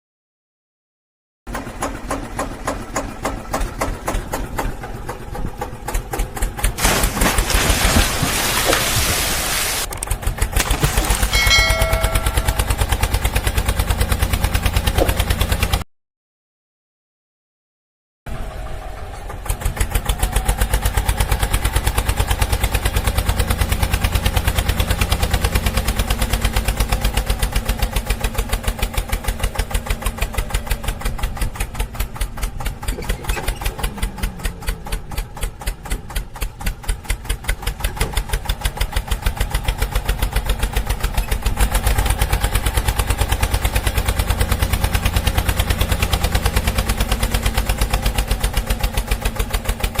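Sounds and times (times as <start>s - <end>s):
engine idling: 1.5s - 7.6s, 9.8s - 15.8s, 18.3s - 50.0s.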